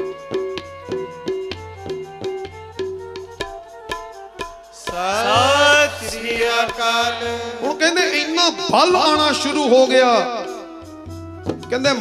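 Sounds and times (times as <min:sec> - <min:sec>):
tabla playing: 0:00.0 - 0:12.0.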